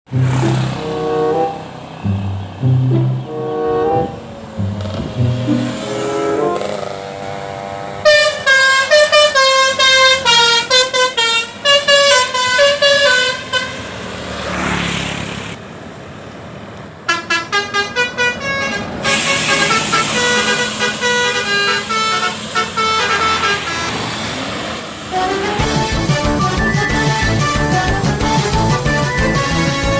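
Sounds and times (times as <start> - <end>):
musical bus horn playing a tune: 0.1 - 13.9, 17.1 - 24.1, 25.1 - 29.9.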